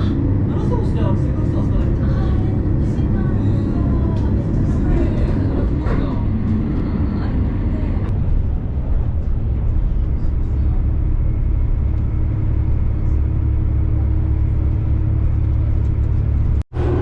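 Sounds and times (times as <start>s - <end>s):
diesel train rumble from inside: 0.0s - 17.0s
low hum: 0.0s - 17.0s.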